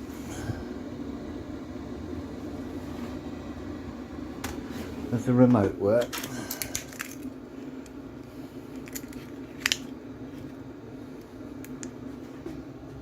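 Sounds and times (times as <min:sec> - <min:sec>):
air heater humming: 0:00.0 - 0:13.0.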